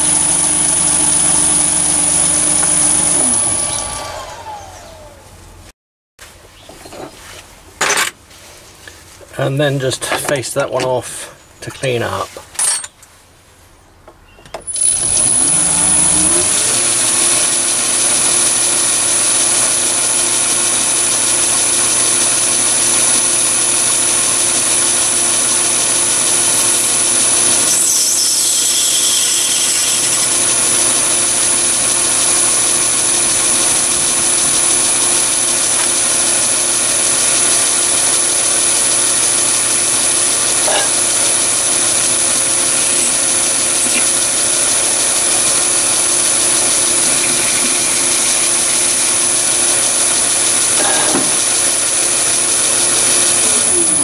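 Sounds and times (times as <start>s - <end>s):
lathe motor whining: 0.0s - 5.5s, 14.7s - 54.0s.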